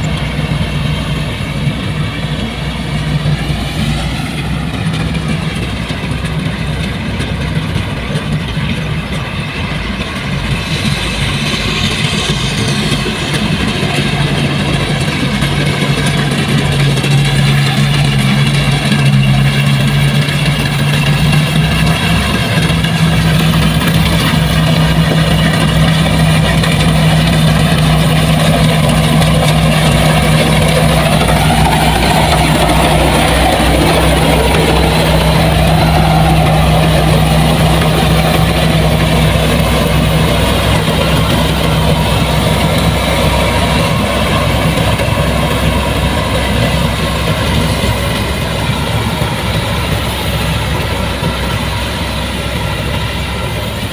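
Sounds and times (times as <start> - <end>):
heavy machinery engine running: 0.0 - 53.9.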